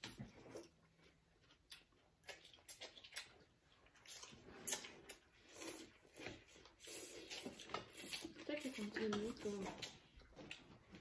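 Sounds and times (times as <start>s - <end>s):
wet slurps and chewing: 0.0s - 11.0s.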